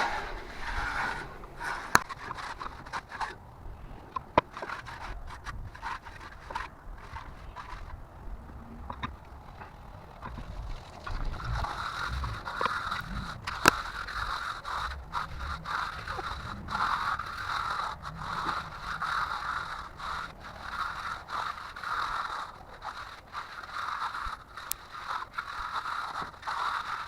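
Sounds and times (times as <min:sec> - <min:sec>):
steel tool scraping wet concrete: 0:00.0 - 0:03.4, 0:04.4 - 0:08.0, 0:08.9 - 0:27.0.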